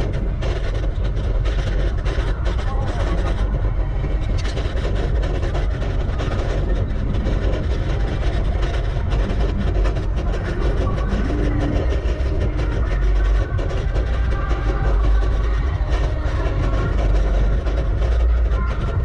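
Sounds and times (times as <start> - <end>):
bicycle rattling: 0.0 - 19.0
wind rush on microphone: 0.0 - 19.0.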